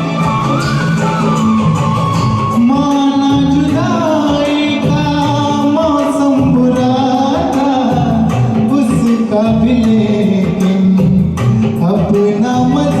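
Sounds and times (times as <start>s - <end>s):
karaoke backing track: 0.0s - 13.0s
person singing: 2.5s - 13.0s.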